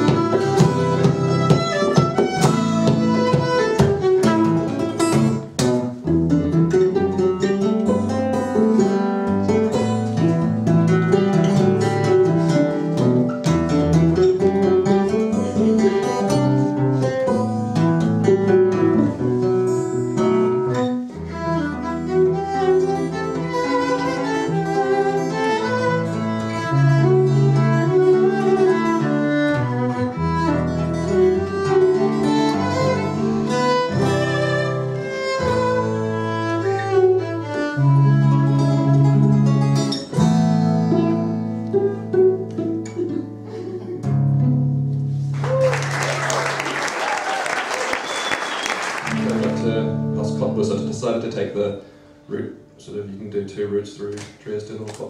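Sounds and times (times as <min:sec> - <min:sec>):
violin melody: 0:00.0 - 0:45.5, 0:49.0 - 0:53.8
acoustic guitar accompaniment: 0:00.0 - 0:55.0.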